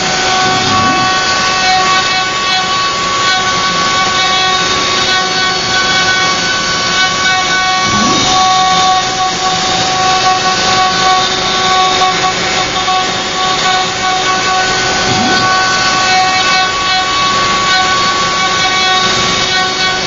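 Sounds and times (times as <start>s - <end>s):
router bit cutting wood: 0.0s - 20.0s
router spindle whine: 0.0s - 20.0s.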